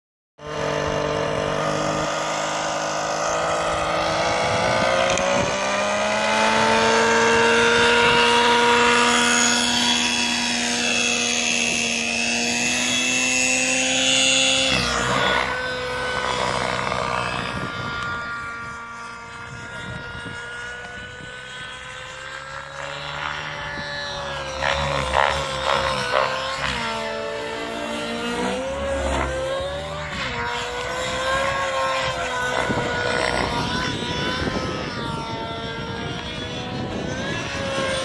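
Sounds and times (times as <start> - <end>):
model helicopter engine and rotor: 0.4 - 38.0.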